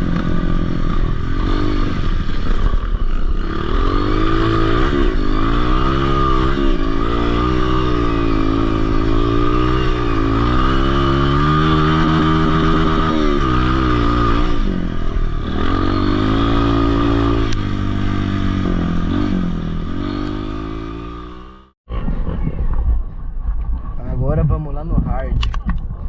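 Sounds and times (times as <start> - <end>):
dirt bike engine accelerating: 0.0 - 22.0
rough rumbling background noise: 0.0 - 26.0.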